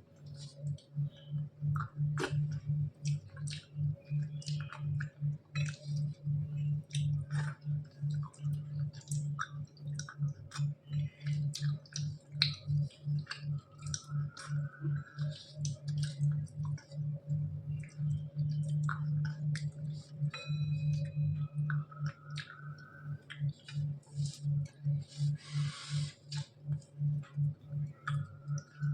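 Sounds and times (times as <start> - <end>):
low pulsing hum: 0.0 - 28.9
chewing mouth clicks and smacks: 0.2 - 25.3, 26.2 - 28.9.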